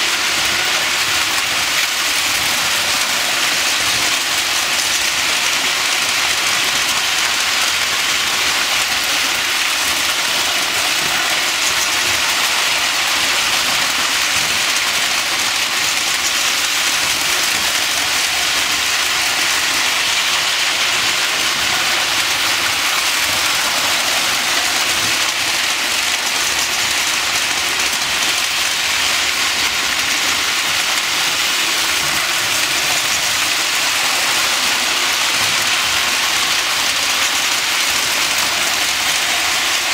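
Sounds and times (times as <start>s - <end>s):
toy electric trains whirring: 0.0s - 39.9s.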